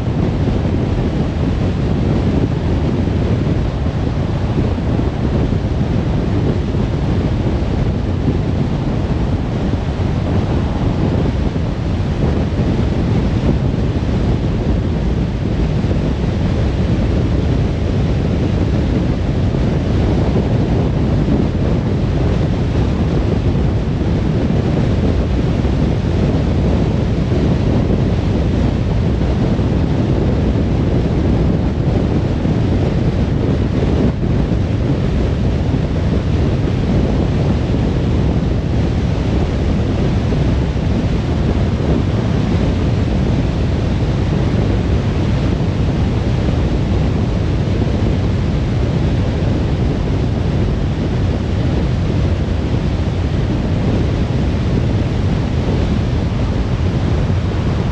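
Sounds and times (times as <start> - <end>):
rushing wind: 0.0 - 57.9.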